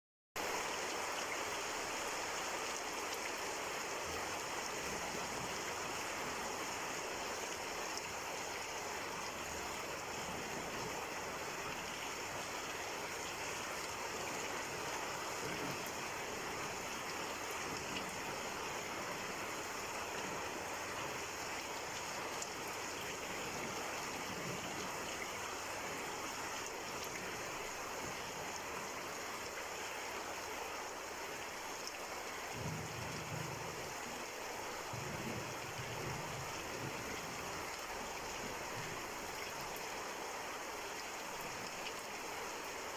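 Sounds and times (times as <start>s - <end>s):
steady rain falling: 0.4s - 42.9s.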